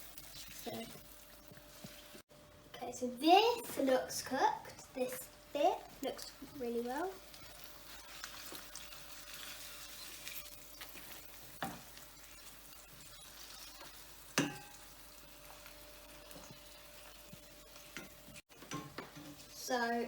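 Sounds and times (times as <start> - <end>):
egg sizzling in frying pan: 0.0 - 2.3, 3.5 - 20.0.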